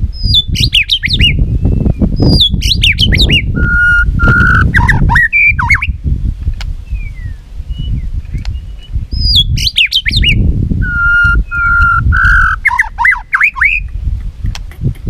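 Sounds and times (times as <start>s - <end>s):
bird singing whistles: 0.2s - 6.0s, 6.8s - 14.0s.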